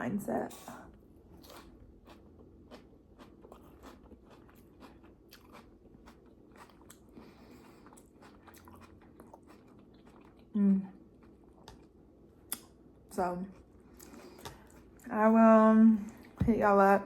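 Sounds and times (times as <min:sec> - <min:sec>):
person chewing salad: 0:01.1 - 0:15.2.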